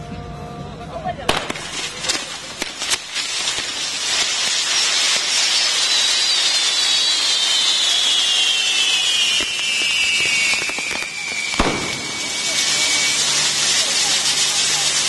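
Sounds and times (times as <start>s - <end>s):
fireworks fountain hissing: 1.3s - 15.0s
high falling firework whistle: 1.3s - 15.0s.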